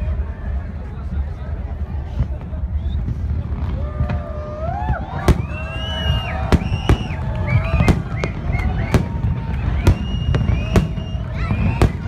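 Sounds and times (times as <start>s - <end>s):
steady low rumble: 0.0s - 12.0s
fireworks bursting with sharp bangs: 1.7s - 12.0s.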